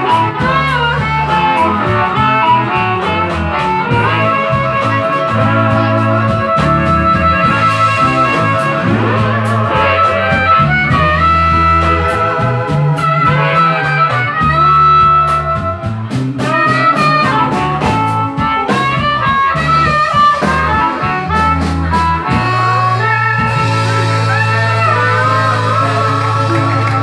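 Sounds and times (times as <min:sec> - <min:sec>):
cymbals: 0:00.0 - 0:27.0
harmonica: 0:00.0 - 0:27.0
live blues band playing: 0:00.0 - 0:27.0.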